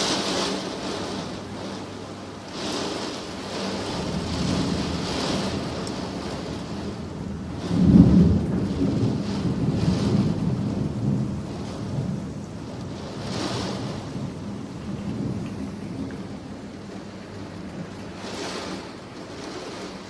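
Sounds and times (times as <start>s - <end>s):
heavy rain downpour: 0.0s - 20.0s
low thunder rumble: 0.0s - 20.0s
strong wind lashing trees: 0.0s - 20.0s.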